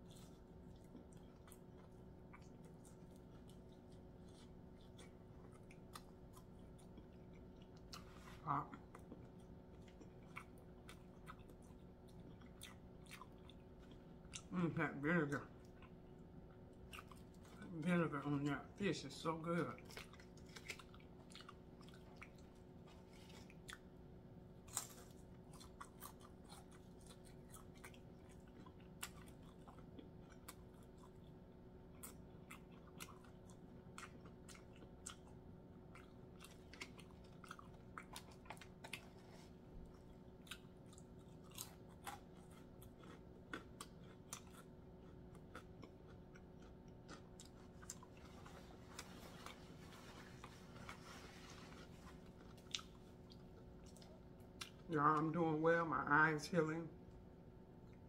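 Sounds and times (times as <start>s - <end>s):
person chewing crunchy food: 0.0s - 14.6s, 15.2s - 18.4s, 19.5s - 54.9s
steady low hum: 0.0s - 58.0s.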